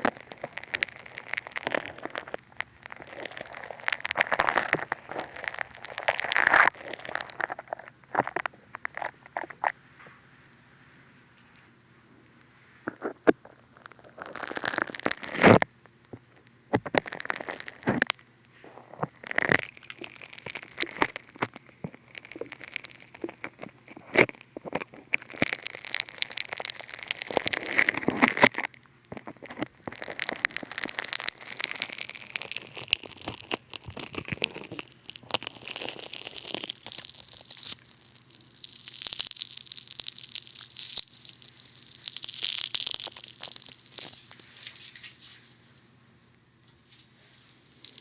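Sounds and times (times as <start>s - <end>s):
foam crackling on microphone: 0.0s - 11.7s, 12.3s - 45.5s, 47.4s - 48.0s.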